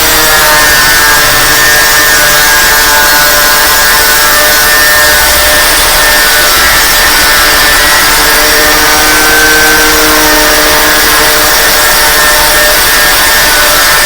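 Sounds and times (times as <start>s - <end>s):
angle grinder grinding metal: 0.0s - 14.0s.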